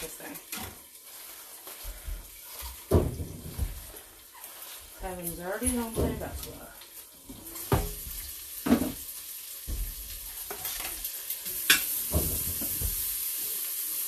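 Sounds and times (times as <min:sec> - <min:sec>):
onions sizzling in butter: 0:00.0 - 0:14.0.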